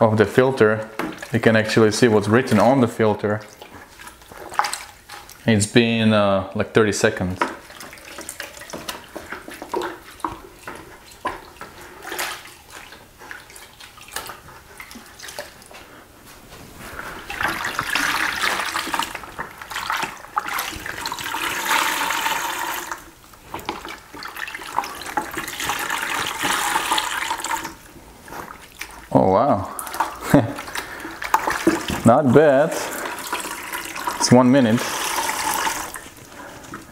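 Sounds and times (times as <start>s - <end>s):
liquid squelching and sloshing: 0.0s - 36.9s.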